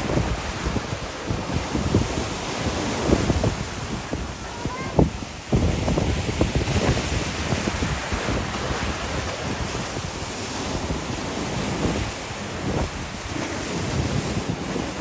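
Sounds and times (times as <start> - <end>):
surf washing on a beach: 0.0 - 15.0
wind buffeting microphone: 0.0 - 15.0.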